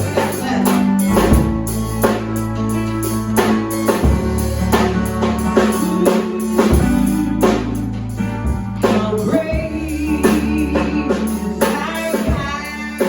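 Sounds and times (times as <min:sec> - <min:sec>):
bass notes: 0:00.0 - 0:13.0
drums keeping a beat: 0:00.0 - 0:13.0
guitar chords: 0:00.0 - 0:13.0.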